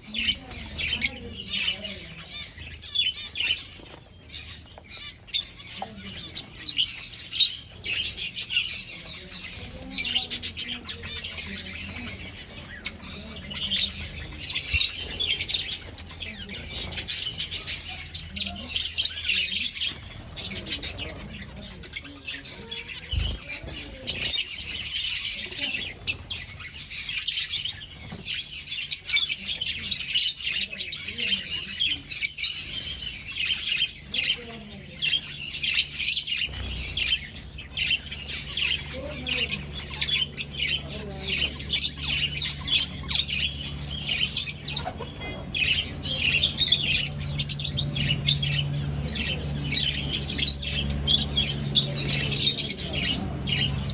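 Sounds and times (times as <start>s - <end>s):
finches chirping: 0.0s - 53.9s.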